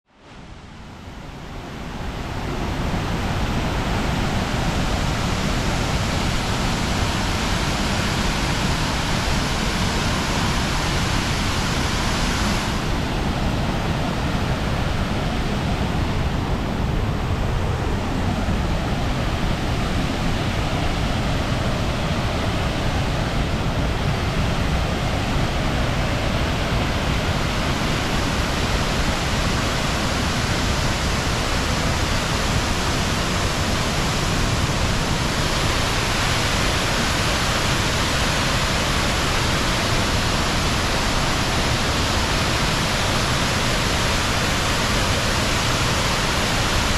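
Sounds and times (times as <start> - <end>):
waterfall rushing: 0.3 - 46.9.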